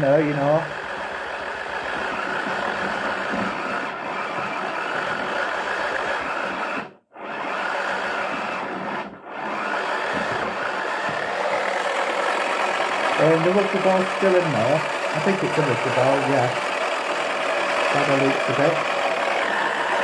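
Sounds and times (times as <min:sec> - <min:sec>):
small electric motor running: 0:00.0 - 0:20.0.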